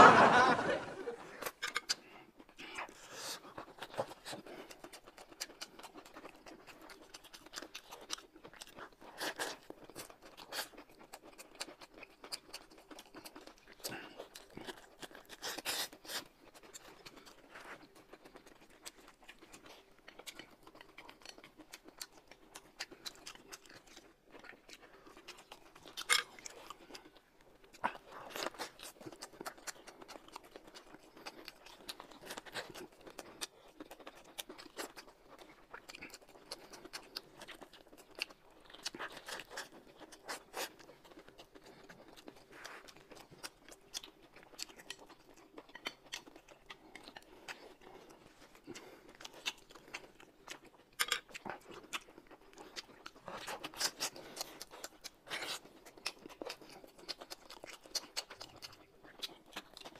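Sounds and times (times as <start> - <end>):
people chewing crunchy wraps: 0.0 - 59.9.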